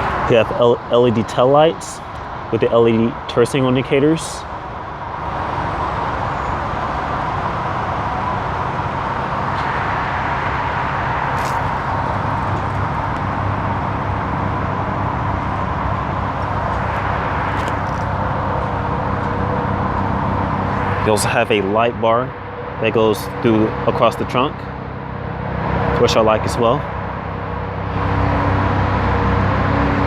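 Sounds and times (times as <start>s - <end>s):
thin whine: 0.0s - 30.0s
traffic noise: 0.0s - 30.0s
vehicle engine hum: 0.0s - 30.0s.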